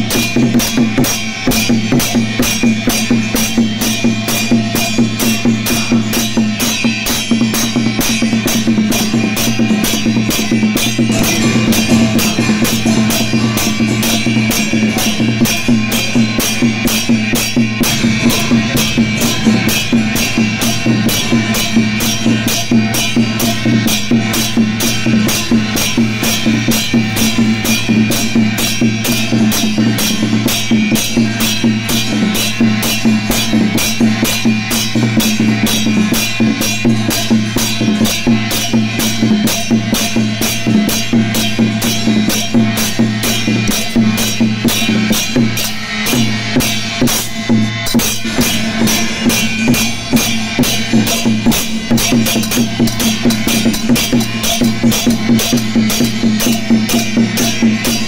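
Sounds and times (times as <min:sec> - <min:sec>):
music with drum beat: 0:00.0 - 0:58.0.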